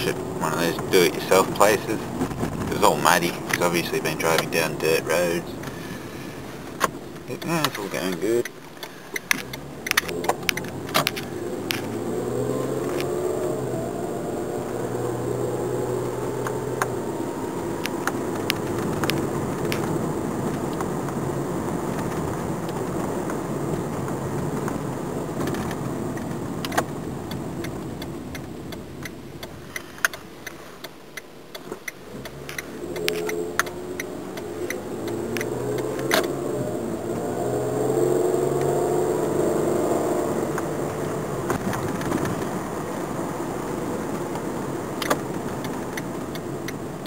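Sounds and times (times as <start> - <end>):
car engine running: 0.0 - 30.7, 31.5 - 47.0.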